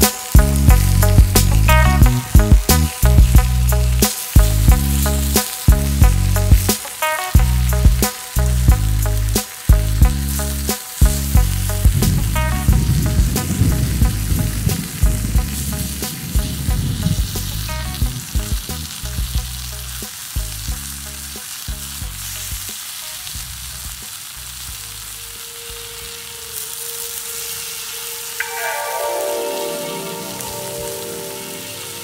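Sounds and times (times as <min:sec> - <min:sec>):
soft background music: 0:00.0 - 0:22.5, 0:25.2 - 0:32.0
vegetables sizzling on stone: 0:00.0 - 0:32.0.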